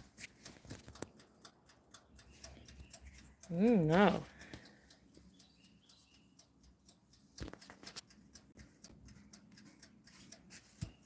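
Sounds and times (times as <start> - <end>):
mechanical timer ticking: 0.0 - 11.0.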